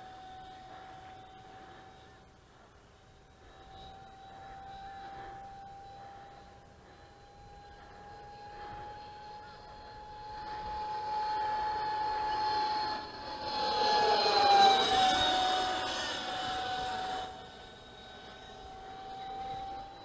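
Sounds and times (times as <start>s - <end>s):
model jet whine flying past: 0.0s - 20.0s.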